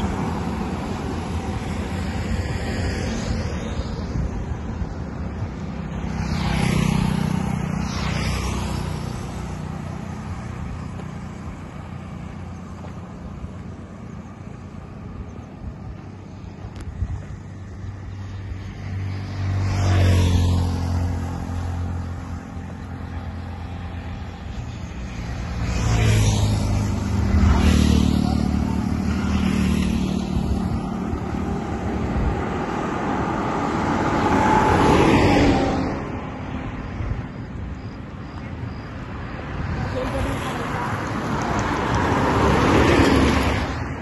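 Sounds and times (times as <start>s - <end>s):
vehicles passing on highway: 0.0s - 44.0s.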